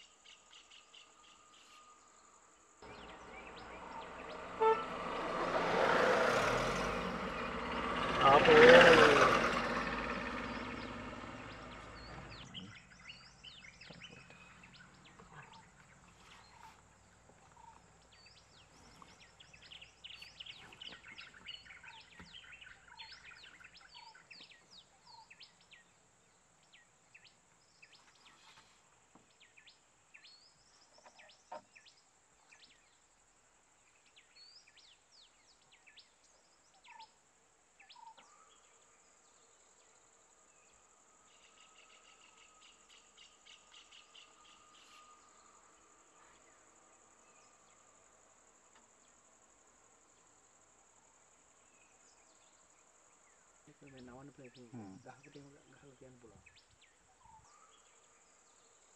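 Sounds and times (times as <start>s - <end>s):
wild birdsong chirps and whistles: 0.0s - 58.9s.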